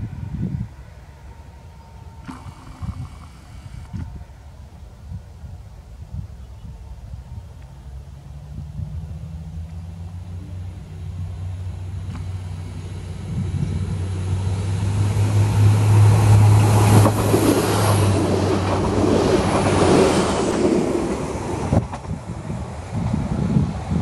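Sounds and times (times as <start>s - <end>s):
railcar engine hum: 0.0s - 24.0s
wheel and rail noise: 0.0s - 24.0s.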